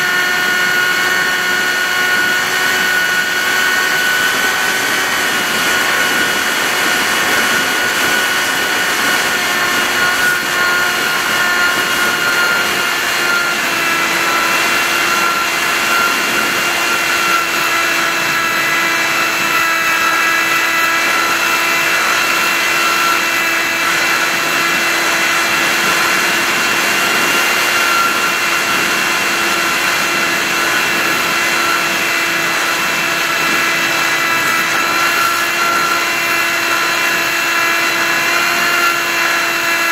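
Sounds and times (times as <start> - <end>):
model aircraft motor whine: 0.0 - 39.9.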